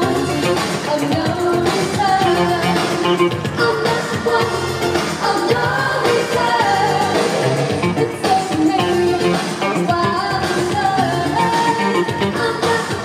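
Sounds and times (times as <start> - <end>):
live synthpop band: 0.0 - 13.0
person singing: 0.0 - 13.0.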